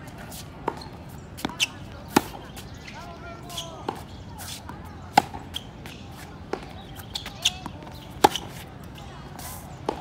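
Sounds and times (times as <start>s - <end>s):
tennis balls bouncing on court: 0.1s - 10.0s
tennis balls struck by racket: 0.6s - 2.6s, 3.5s - 10.0s.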